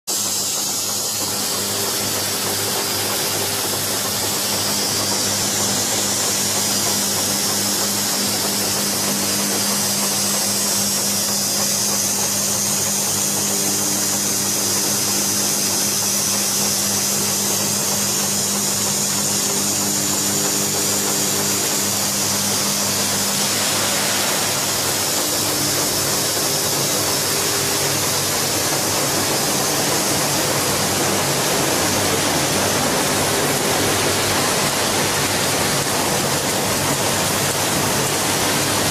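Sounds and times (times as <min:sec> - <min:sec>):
loud hiss: 0:00.1 - 0:38.9
machine mechanical hum: 0:00.1 - 0:38.9.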